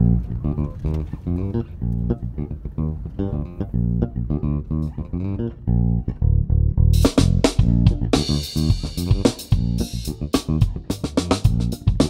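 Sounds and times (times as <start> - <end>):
electric bass funk line: 0.0 - 12.0.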